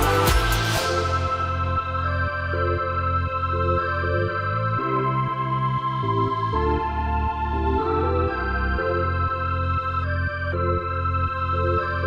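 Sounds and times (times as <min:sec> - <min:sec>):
steady bass line: 0:00.0 - 0:12.0.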